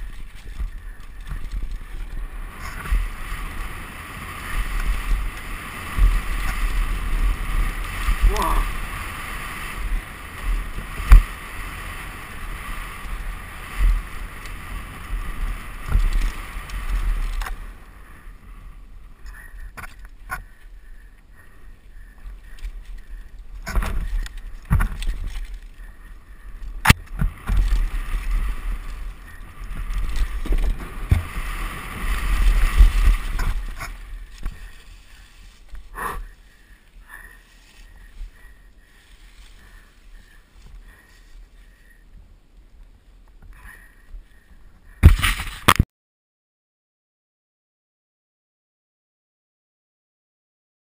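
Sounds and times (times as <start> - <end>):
bike tyre noise: 0.0 - 45.8.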